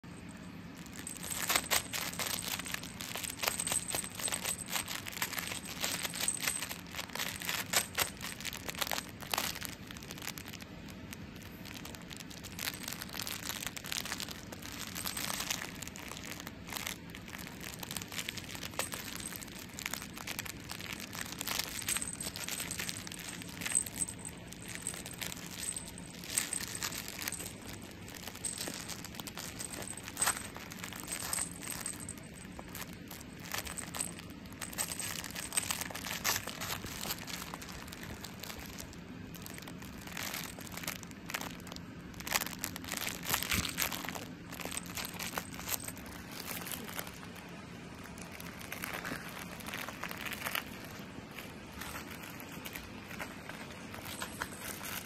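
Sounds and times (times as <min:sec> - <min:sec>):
kitten rustling plush toy: 0:00.1 - 0:55.0.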